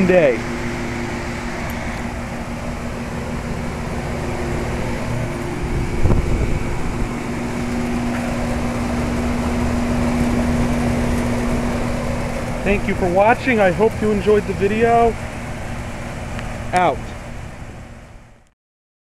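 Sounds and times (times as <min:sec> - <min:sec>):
compressor hum: 0:00.0 - 0:18.5
fan air rushing: 0:00.0 - 0:18.5.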